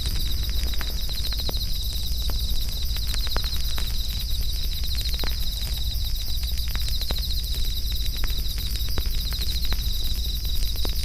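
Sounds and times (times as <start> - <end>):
campfire crackling and popping: 0.0 - 11.0
crickets chirping: 0.0 - 11.0.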